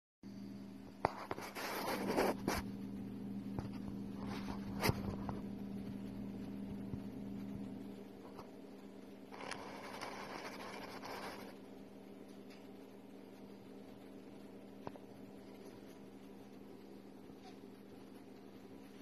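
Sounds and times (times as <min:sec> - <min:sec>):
steady low hum: 0:00.2 - 0:19.0.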